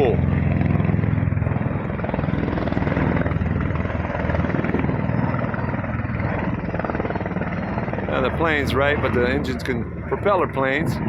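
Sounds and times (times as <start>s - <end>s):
aircraft rotor blades beating: 0.0s - 11.0s.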